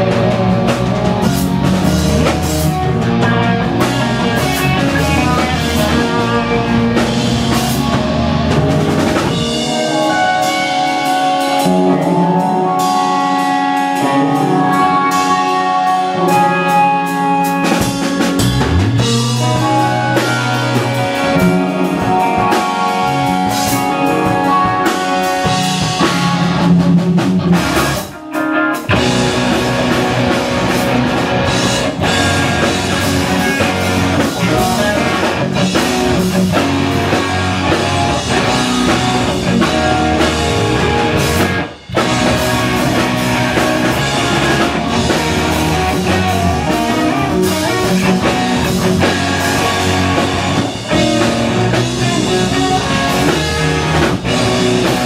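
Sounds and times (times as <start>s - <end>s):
drum kit: 0.0s - 55.0s
electric bass: 0.0s - 55.0s
electric guitars: 0.0s - 55.0s.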